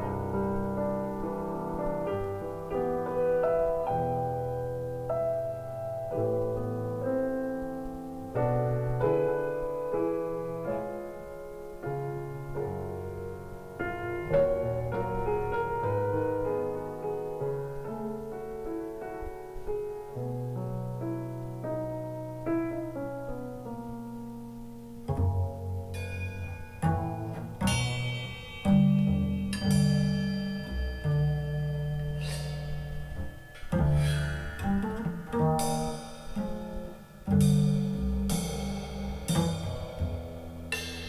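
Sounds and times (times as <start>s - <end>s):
slow classical piano music: 0.0s - 41.0s.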